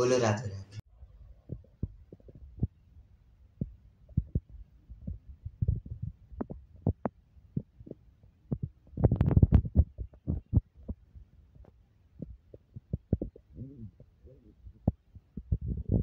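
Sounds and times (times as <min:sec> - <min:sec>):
microphone handling thumps: 0:01.4 - 0:02.8, 0:03.6 - 0:16.0.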